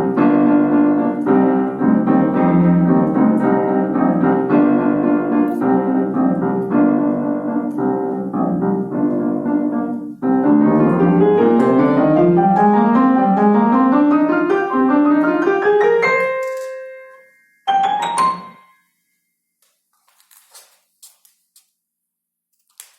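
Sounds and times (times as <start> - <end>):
solo piano piece: 0.0 - 19.0.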